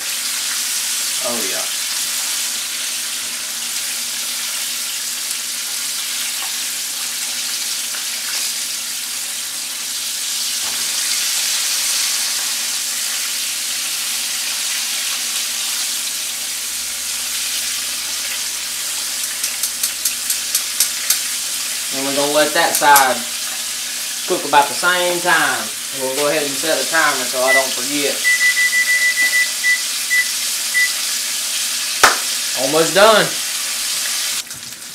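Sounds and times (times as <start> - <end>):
meat sizzling in a skillet: 0.0 - 34.9.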